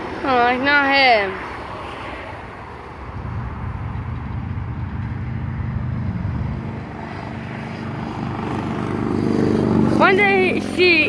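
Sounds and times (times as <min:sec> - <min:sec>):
truck driving past: 0:01.5 - 0:11.0.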